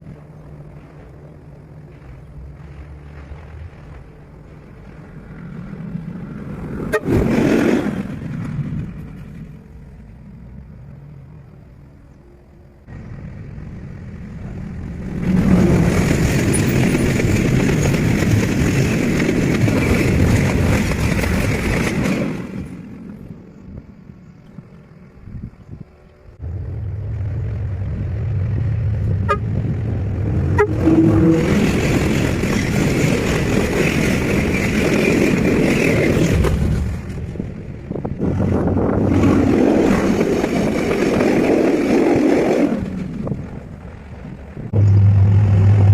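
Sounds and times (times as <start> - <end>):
trains passing at speed: 0.0 - 45.9.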